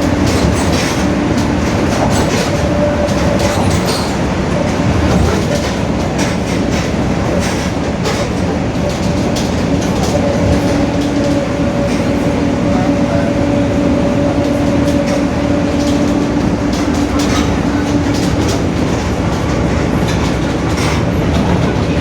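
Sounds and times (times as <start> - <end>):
bus differential droning: 0.0 - 22.0
road noise: 0.0 - 22.0.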